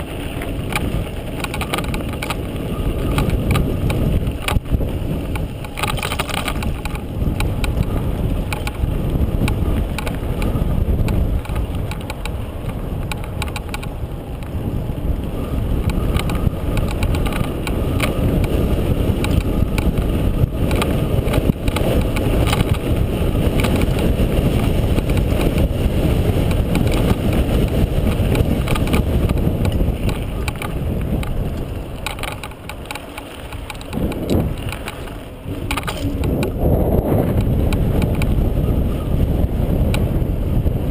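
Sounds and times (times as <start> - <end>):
bike rattling clicks: 0.0 - 40.9
wind rush on microphone: 0.0 - 40.9.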